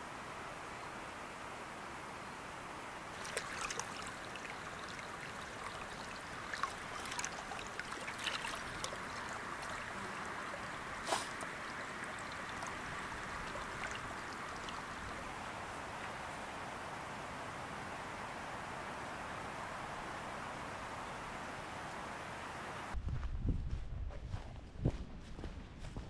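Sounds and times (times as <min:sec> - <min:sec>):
stream running: 0:00.1 - 0:23.0.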